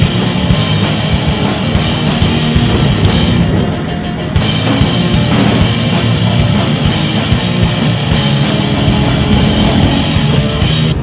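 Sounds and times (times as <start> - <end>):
rock music with drums and guitar: 0.0 - 11.0.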